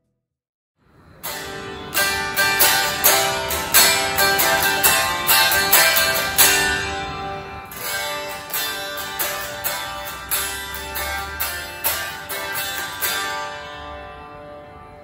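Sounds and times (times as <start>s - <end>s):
unplugged electric guitar strumming: 1.2s - 15.0s.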